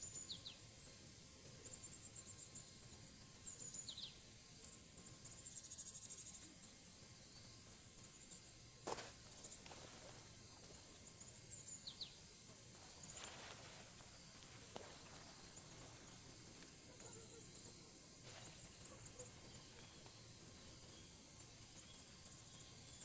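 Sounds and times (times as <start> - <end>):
insect trill: 0.0 - 23.0.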